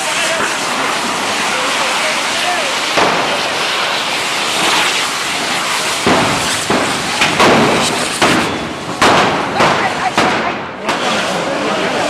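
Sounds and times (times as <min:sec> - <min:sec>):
firework canes hissing: 0:00.0 - 0:12.0
fireworks exploding: 0:00.0 - 0:12.0.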